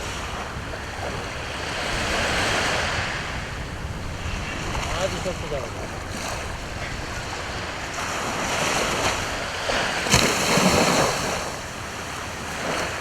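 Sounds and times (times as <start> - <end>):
sea waves breaking on shore: 0.0 - 13.0.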